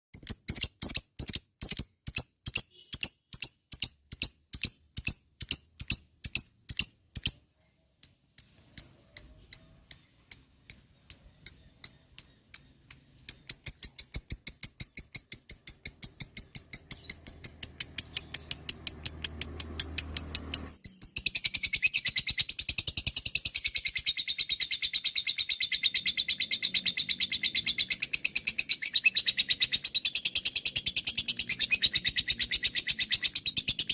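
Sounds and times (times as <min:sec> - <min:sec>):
lovebird chirping: 0:00.2 - 0:33.9.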